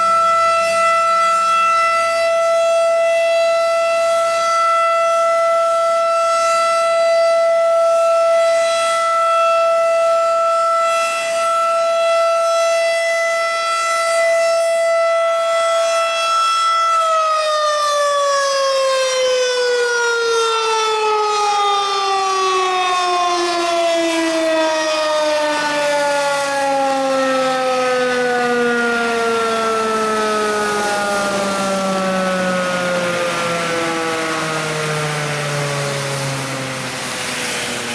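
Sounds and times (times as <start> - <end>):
tornado siren: 0.0 - 37.9.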